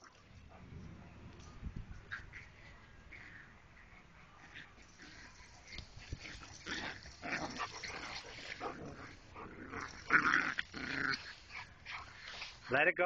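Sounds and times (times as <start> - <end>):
dogs yipping and whining: 1.4 - 12.4.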